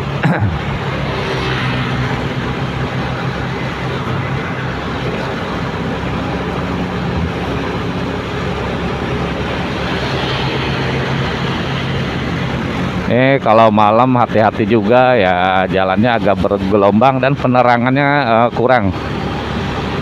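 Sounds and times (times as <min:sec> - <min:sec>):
motorcycle engine hum: 0:00.0 - 0:20.0
wind and road noise: 0:00.0 - 0:20.0.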